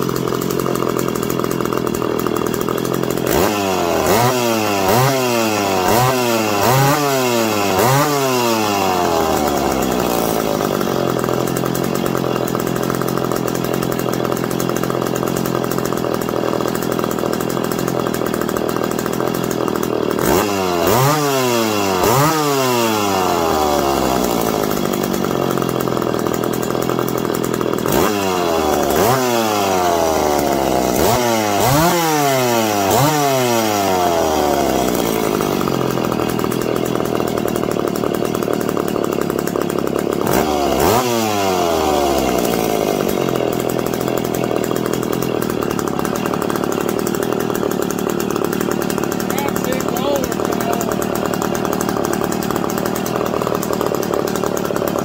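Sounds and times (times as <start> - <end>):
chainsaw engine idling and revving: 0.0 - 55.0.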